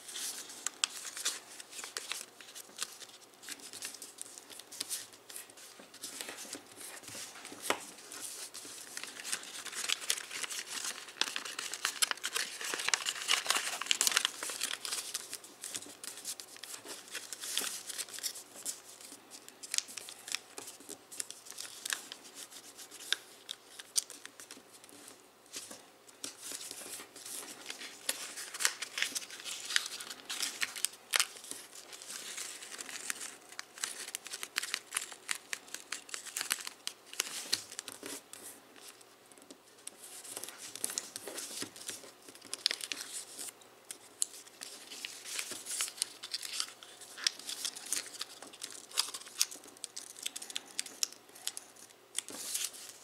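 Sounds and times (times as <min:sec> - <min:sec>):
foil paper crinkling: 0:00.0 - 0:24.8, 0:25.5 - 0:39.0, 0:39.9 - 0:53.0.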